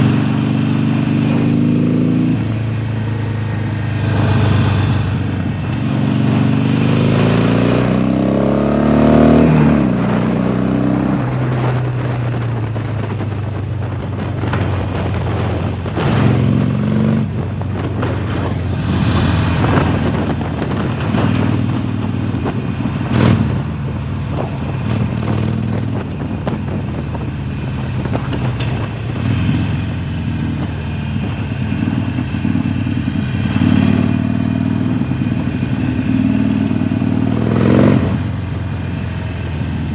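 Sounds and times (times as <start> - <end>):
motorcycle engine revving: 0.0 - 13.3, 13.9 - 39.9.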